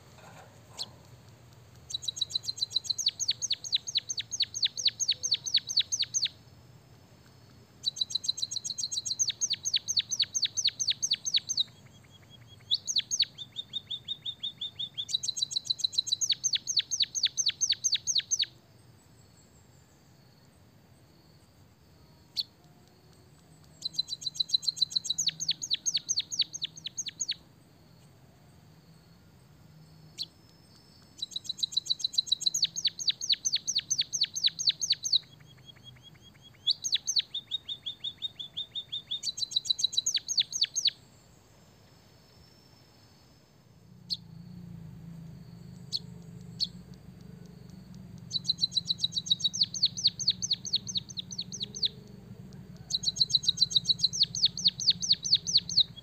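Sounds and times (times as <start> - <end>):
bird song of rapid sharp chirps: 0.0 - 56.0
bird trill: 1.7 - 6.4, 7.4 - 20.4, 21.4 - 28.2, 29.8 - 56.0.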